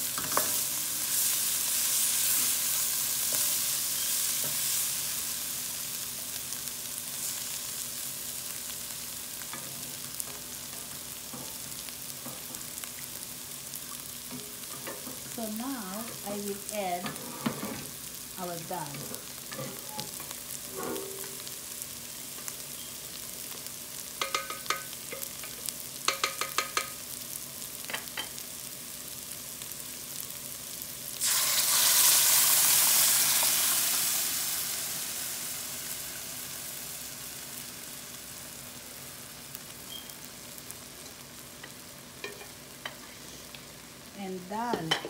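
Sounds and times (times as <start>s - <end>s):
loud sizzle of poured dal: 0.0s - 44.7s
spices sizzling in oil: 0.0s - 45.0s.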